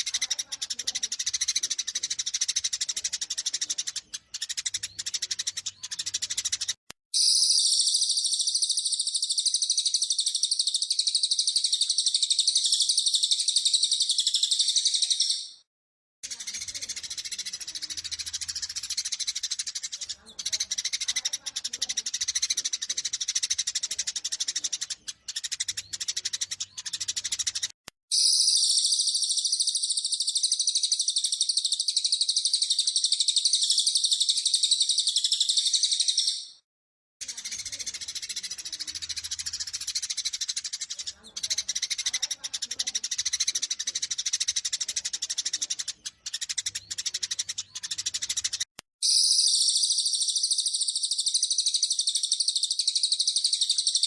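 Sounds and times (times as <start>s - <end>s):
sparrows chirping: 0.0s - 36.6s, 37.2s - 54.0s.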